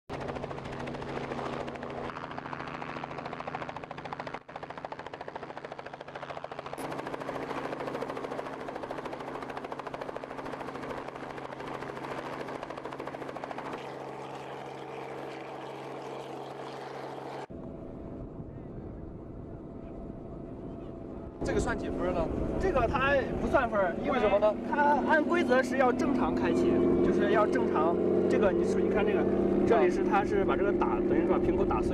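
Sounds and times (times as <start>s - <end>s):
helicopter engine turbine drone: 0.1s - 31.9s
helicopter rotor blades beating: 0.1s - 31.9s.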